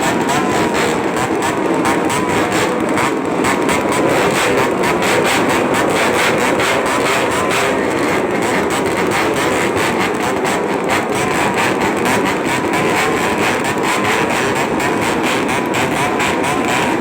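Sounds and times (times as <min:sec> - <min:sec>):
motorcycle exhaust roaring: 0:00.0 - 0:17.0.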